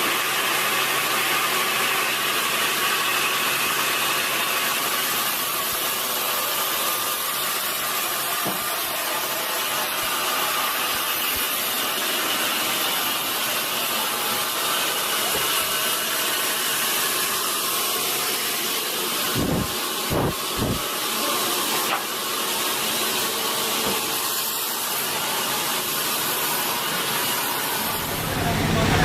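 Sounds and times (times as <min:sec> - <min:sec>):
saw blade cutting log: 0:00.0 - 0:28.2.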